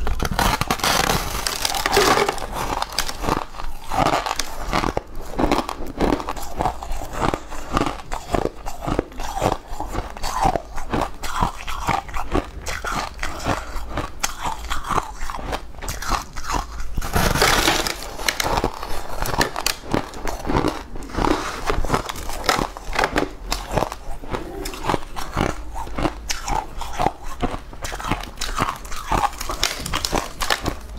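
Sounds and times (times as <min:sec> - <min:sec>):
ice crunching in mouth: 0:00.0 - 0:30.9.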